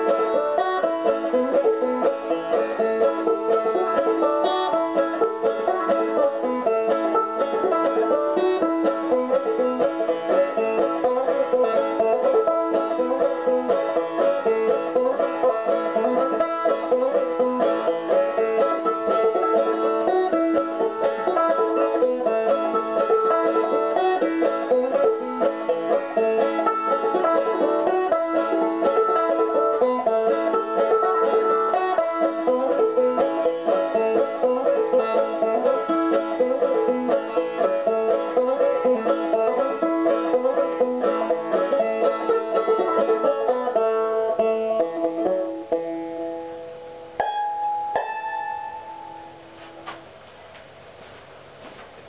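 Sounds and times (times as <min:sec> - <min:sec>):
banjo picking fast tune: 0:00.0 - 0:49.7.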